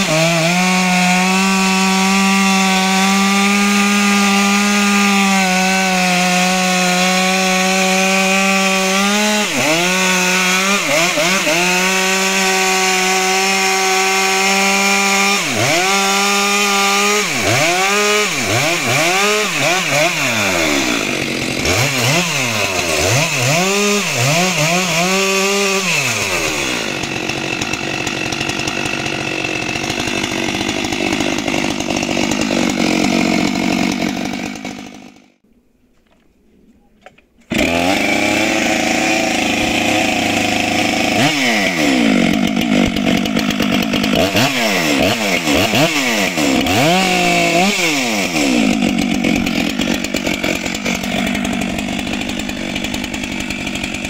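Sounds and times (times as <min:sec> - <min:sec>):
chainsaw running at high speed: 0:00.0 - 0:35.4, 0:37.5 - 0:54.0.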